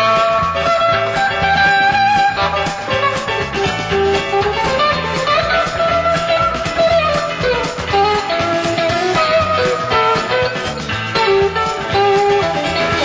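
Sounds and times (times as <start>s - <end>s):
bass guitar: 0.0s - 13.0s
drum kit: 0.0s - 13.0s
lead electric guitar with slides: 0.0s - 13.0s.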